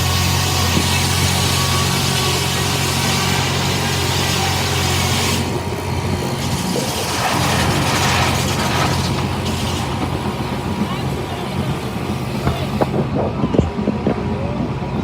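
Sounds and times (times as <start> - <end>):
broad rushing noise: 0.0 - 15.0.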